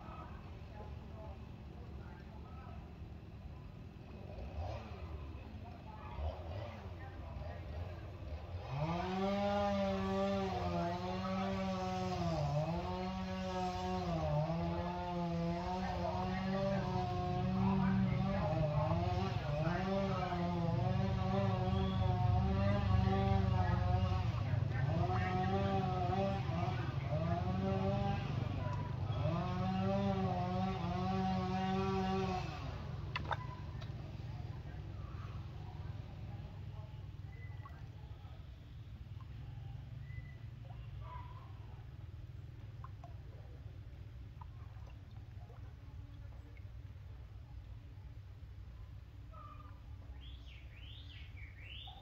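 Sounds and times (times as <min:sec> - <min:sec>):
small engine running: 0:00.0 - 0:48.7.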